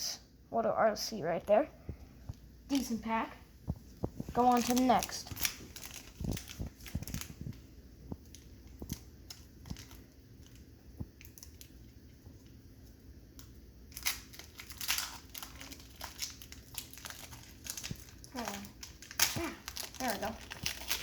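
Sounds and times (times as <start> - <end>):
wrapper crinkling and tearing: 4.1 - 21.0.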